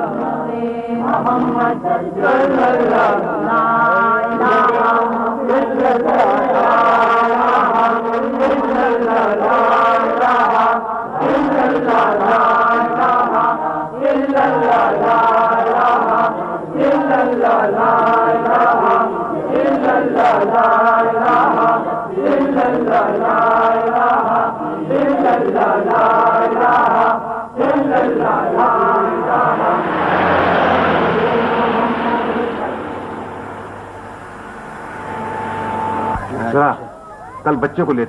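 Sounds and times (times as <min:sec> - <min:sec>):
group of voices chanting: 0:00.0 - 0:37.4.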